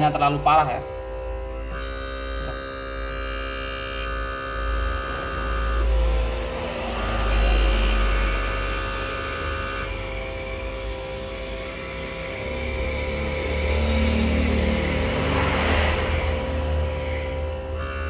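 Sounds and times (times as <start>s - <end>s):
high whining tones: 0.0s - 18.0s
vacuum pump humming: 0.0s - 18.0s.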